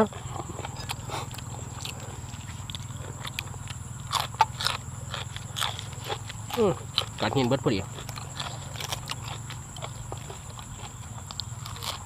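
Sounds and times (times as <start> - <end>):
food crunching: 0.0 - 12.0.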